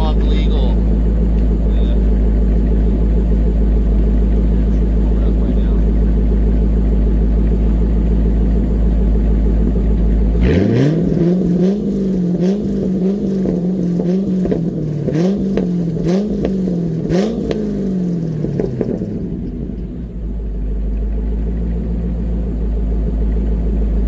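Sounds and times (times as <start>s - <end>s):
car engine revving: 0.0s - 24.0s
exhaust cracks: 0.0s - 24.0s.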